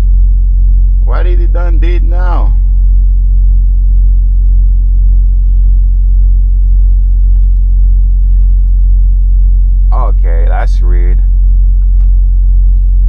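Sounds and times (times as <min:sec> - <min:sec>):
diesel truck engine idling: 0:01.0 - 0:13.0.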